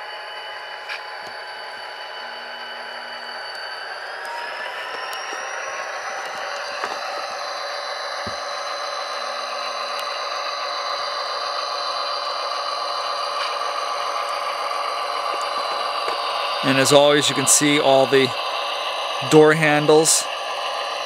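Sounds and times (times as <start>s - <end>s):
diesel engine sound from small speaker: 0.0s - 21.0s.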